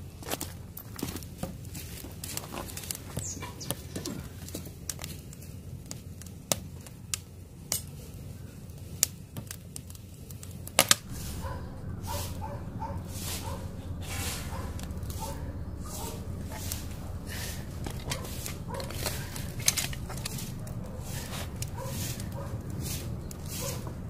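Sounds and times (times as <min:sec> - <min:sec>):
low steady rumble: 0:00.0 - 0:06.4, 0:10.2 - 0:24.0
wood fire crackling and popping: 0:00.0 - 0:24.0.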